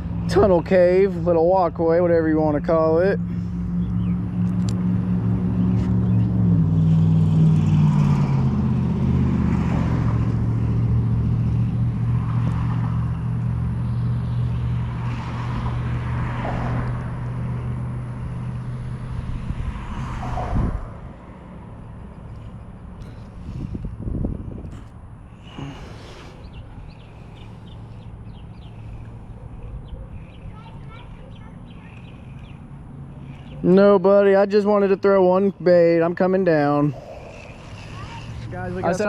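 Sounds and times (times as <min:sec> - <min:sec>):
vehicle engine humming: 0:00.0 - 0:39.0.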